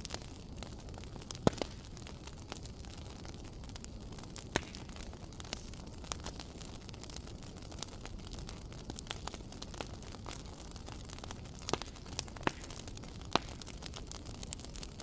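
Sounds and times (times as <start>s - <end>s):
fire popping and snapping: 0.0s - 15.0s
low rumble and hiss of fire: 0.0s - 15.0s.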